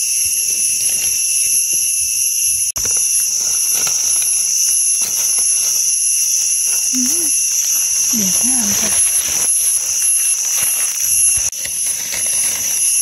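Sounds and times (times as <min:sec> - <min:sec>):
insect chorus drone: 0:00.0 - 0:13.0
rustling of dry leaves: 0:00.0 - 0:13.0.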